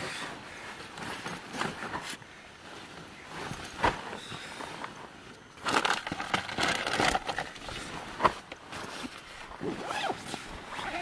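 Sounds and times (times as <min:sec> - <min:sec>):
tent fabric rustling: 0:00.0 - 0:11.0.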